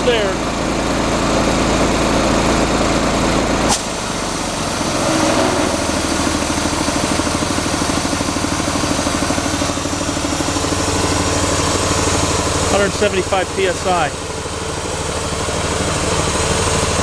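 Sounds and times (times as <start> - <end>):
air compressor running: 0.0 - 17.0.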